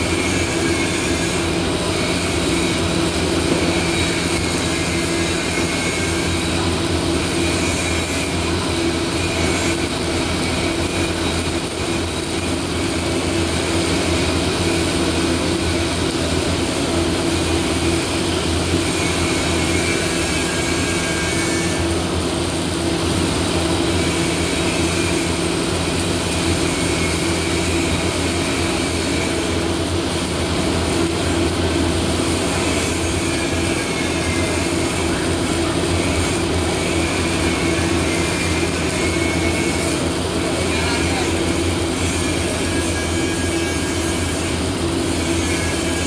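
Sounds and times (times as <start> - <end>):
welding machines humming: 0.0 - 46.0.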